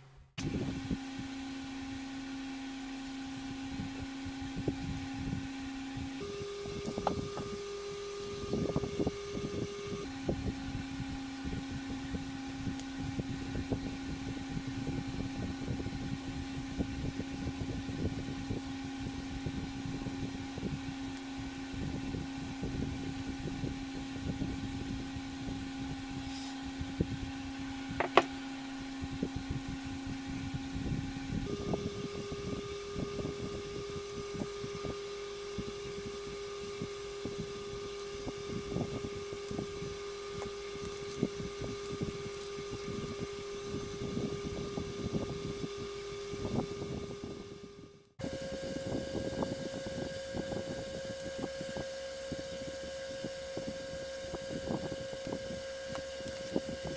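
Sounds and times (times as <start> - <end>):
steady hum: 0.0 - 56.9.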